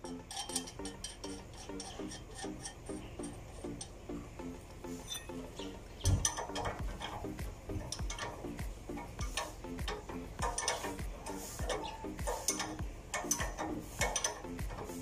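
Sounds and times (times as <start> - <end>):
metal tools clinking: 0.0 - 4.0, 4.8 - 15.0
background music with beat: 0.0 - 15.0.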